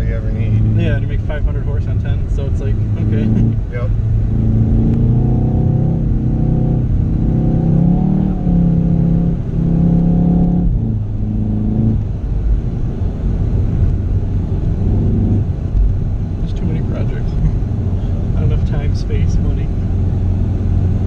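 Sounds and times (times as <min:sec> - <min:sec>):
car engine revving: 0:00.0 - 0:21.0
low rumble: 0:00.0 - 0:21.0.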